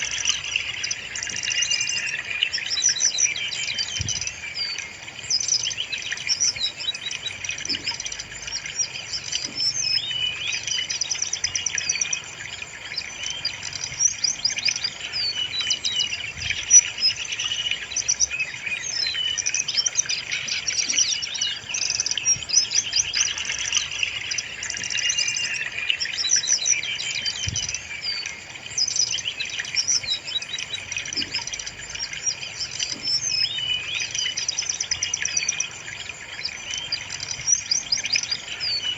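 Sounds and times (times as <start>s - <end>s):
bird singing with trills: 0.0s - 38.9s.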